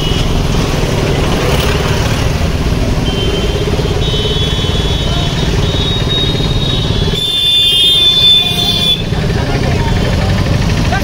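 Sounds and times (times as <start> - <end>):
car and motorbike engines rumbling: 0.0 - 11.0.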